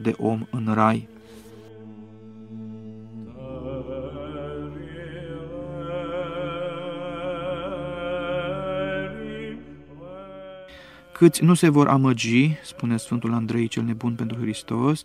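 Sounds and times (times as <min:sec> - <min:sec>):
sung chant melody with vibrato: 0:00.0 - 0:15.0.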